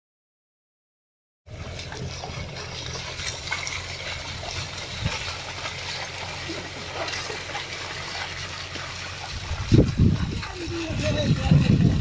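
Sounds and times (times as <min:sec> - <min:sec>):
water sloshing in mud: 0:01.5 - 0:12.0.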